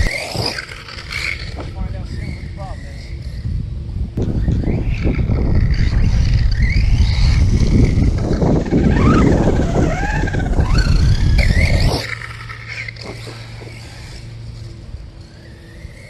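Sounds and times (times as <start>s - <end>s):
electric motor whining: 0.0s - 16.0s
rumble of tyres: 0.0s - 16.0s
wind: 0.0s - 16.0s.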